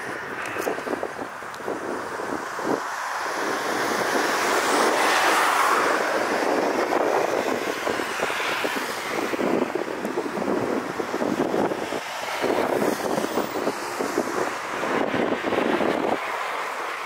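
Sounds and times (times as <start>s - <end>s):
steady traffic: 0.0s - 17.0s
car passing by: 1.7s - 17.0s.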